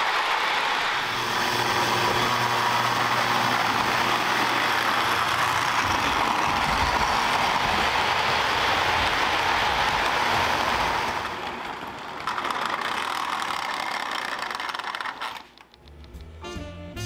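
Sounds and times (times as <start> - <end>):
model train wheels and motor whirring: 0.0 - 16.2.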